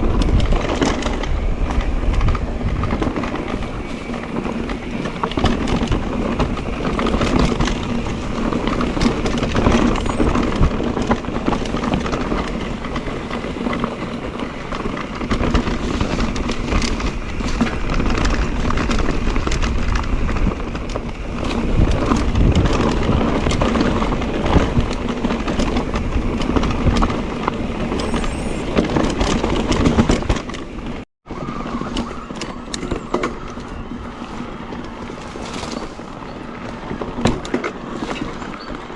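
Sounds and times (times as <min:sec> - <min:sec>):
tyres crunching over stones: 0:00.0 - 0:31.1, 0:32.1 - 0:38.9
bike chain and frame clatter: 0:00.0 - 0:38.9.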